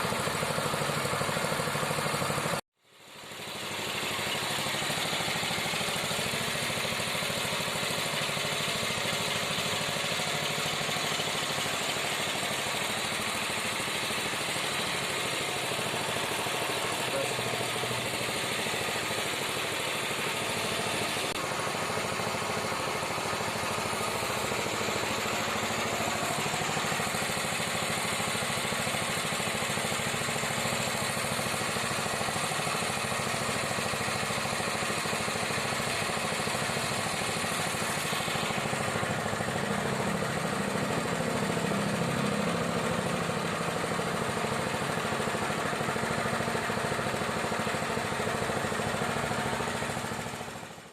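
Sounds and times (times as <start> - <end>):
small petrol engine running: 0.0 - 50.9.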